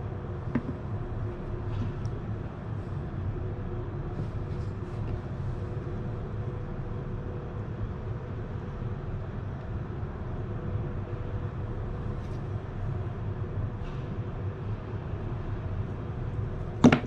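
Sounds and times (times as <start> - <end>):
faint steady hum: 0.0 - 17.0
low rumbling background noise: 0.0 - 17.0.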